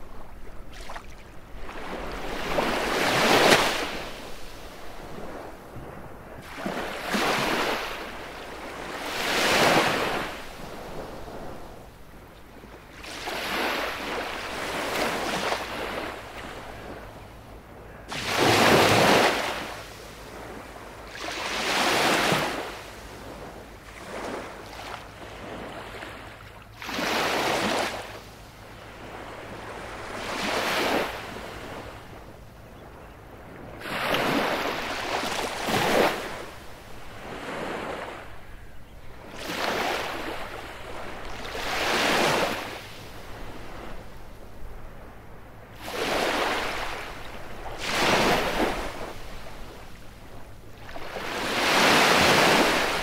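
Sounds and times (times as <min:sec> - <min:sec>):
waves breaking on beach: 0:00.0 - 0:11.8, 0:12.9 - 0:17.1, 0:17.9 - 0:32.3, 0:33.7 - 0:38.6, 0:39.2 - 0:44.1, 0:45.8 - 0:53.0.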